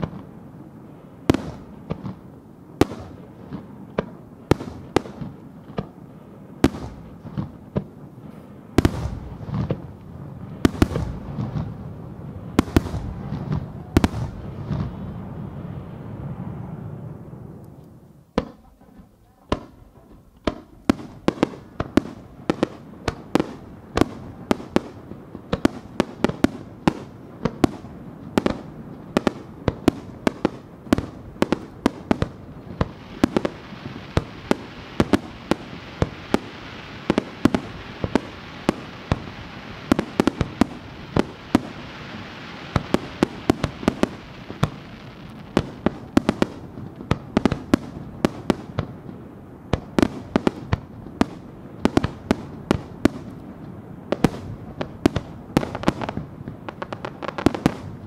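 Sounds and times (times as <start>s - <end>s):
crackling hiss: 0.0s - 58.0s
fireworks bangs: 0.0s - 58.0s.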